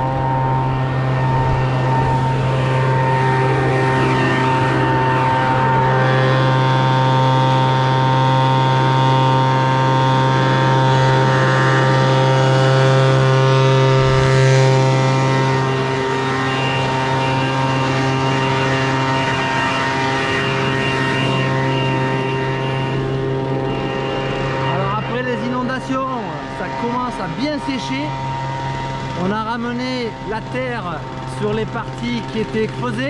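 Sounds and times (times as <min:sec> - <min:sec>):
leaf blower engine running: 0:00.0 - 0:33.0.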